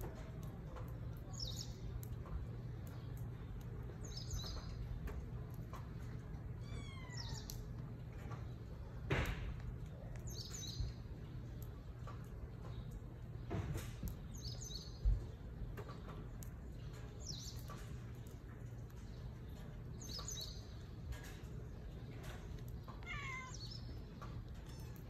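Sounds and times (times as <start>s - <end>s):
low background hum: 0.0s - 25.0s
small birds chirping: 0.1s - 25.0s.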